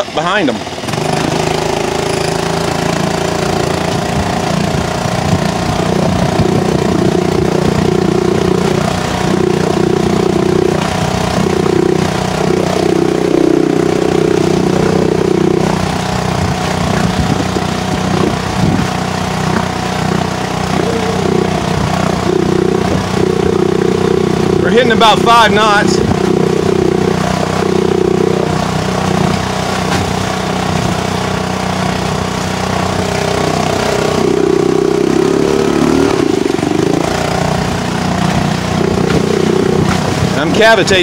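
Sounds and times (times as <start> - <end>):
outboard motor running: 0.0 - 41.0
water noise: 0.0 - 41.0
wind: 0.0 - 41.0.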